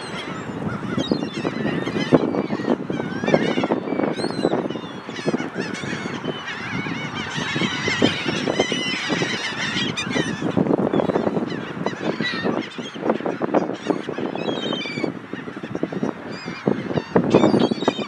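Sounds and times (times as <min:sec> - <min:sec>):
seagulls calling: 0:00.0 - 0:18.0.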